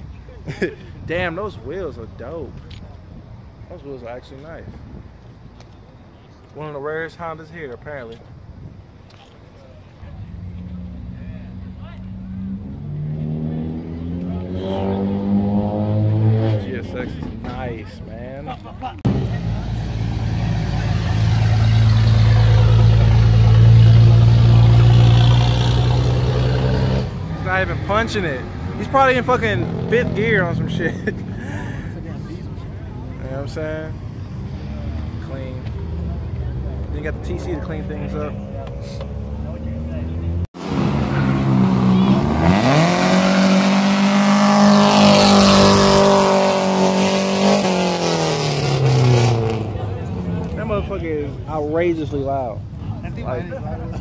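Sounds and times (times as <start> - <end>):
car engine and exhaust steady: 7.7 - 54.0.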